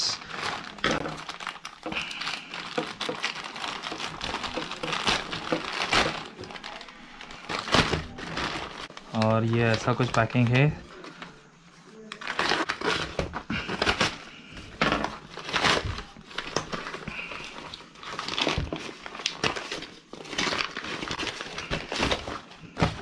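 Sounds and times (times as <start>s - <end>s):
plastic mailer crinkling: 0.0s - 23.0s.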